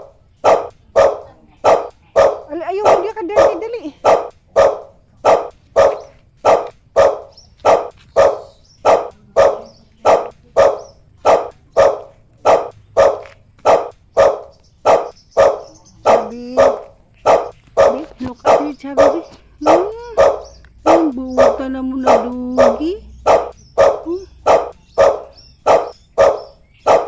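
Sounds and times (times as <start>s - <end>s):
dog barking: 0.0s - 27.0s.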